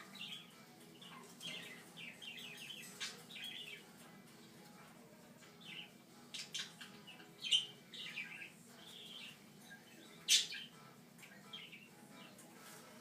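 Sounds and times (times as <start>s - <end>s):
parrots chirping: 0.0s - 3.9s, 5.6s - 12.5s.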